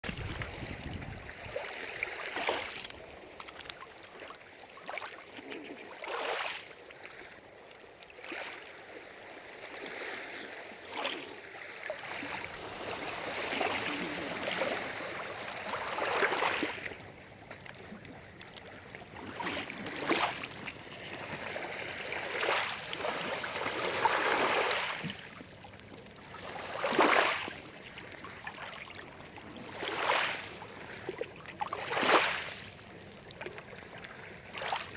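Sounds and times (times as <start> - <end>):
small waves lapping and splashing: 0.0 - 34.9.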